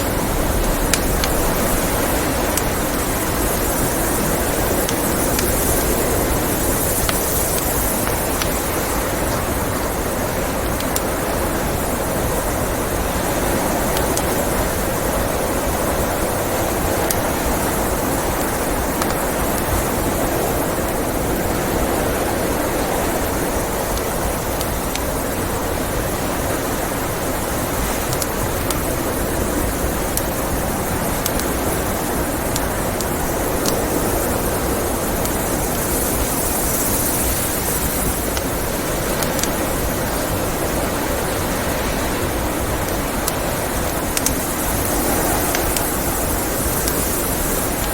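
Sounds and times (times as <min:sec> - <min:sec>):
log fire crackling and popping: 0:00.0 - 0:47.9
rushing wind: 0:00.0 - 0:47.9.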